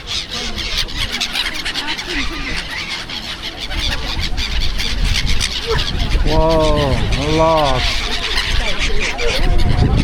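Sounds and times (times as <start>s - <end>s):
flock of gulls calling: 0.0s - 10.0s.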